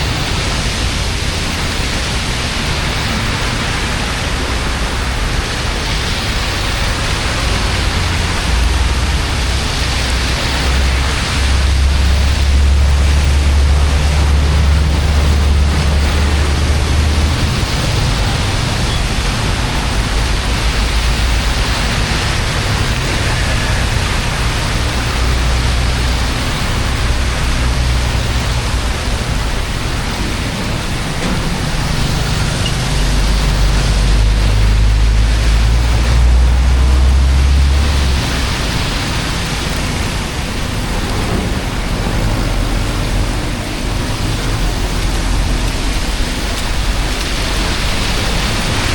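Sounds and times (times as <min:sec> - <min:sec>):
floodwater rushing into drain: 0:00.0 - 0:48.9.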